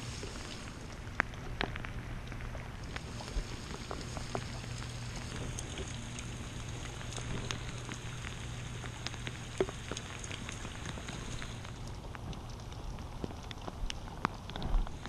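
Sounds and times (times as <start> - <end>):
rain falling: 0.0 - 15.0
steady low hum: 0.0 - 15.0.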